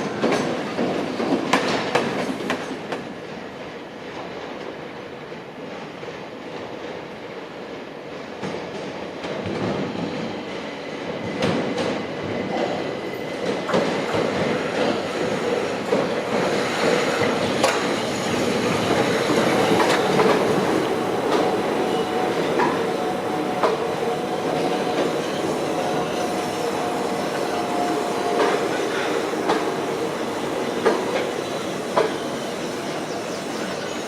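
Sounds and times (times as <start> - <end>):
train wheels clicking over rail joints: 5.4 - 34.0.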